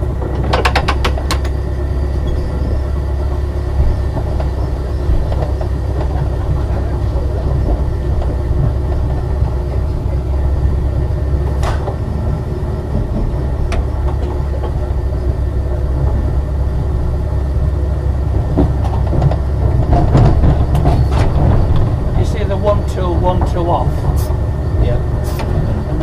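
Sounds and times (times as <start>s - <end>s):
tram rumbling on rails: 0.0s - 26.0s.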